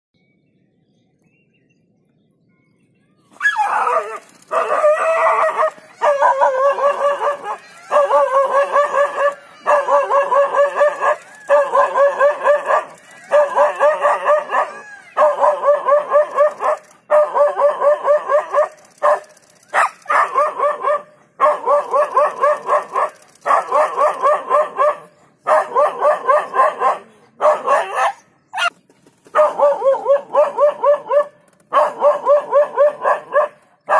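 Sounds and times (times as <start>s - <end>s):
dog yelping barks: 3.4s - 28.7s, 29.3s - 33.9s.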